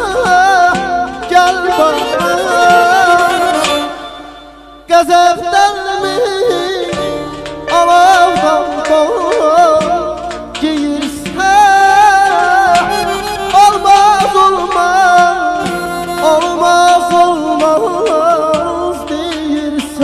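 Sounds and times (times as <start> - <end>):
live band music: 0.0 - 20.0.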